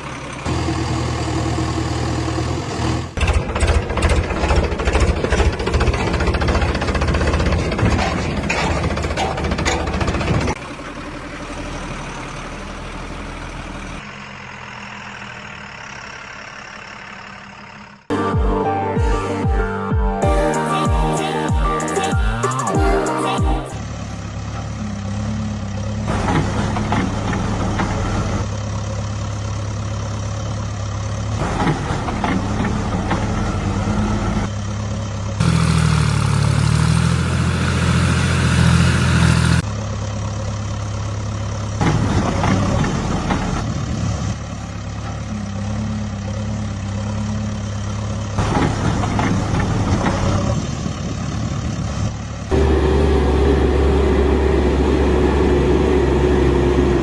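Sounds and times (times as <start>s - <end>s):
deeper engine: 0.0s - 57.0s
heavy diesel engines running: 0.0s - 57.0s.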